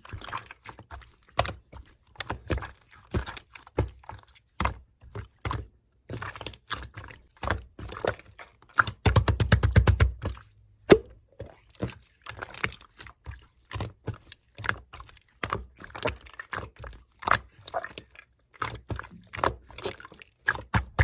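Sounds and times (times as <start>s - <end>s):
slime squelching and popping: 0.0s - 21.0s.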